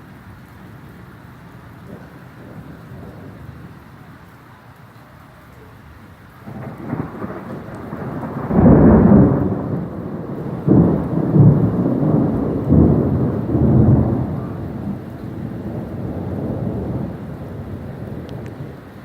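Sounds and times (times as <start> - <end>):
steady rain: 0.0 - 19.0
thunder rolling: 0.6 - 4.7, 6.0 - 19.0.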